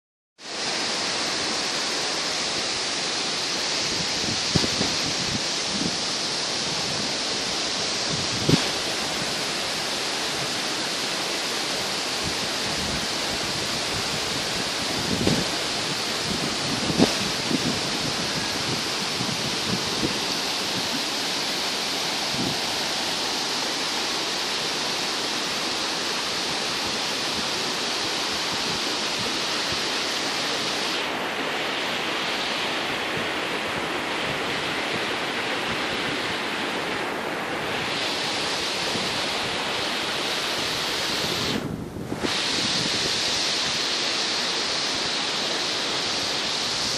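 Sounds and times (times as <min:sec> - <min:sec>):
water rushing over boulders: 0:00.4 - 0:46.9.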